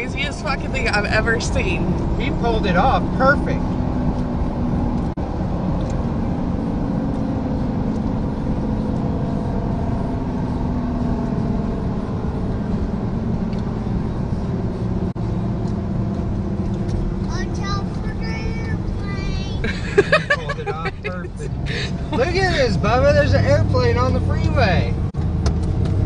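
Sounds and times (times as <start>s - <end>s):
vehicle road and engine noise: 0.0s - 26.0s.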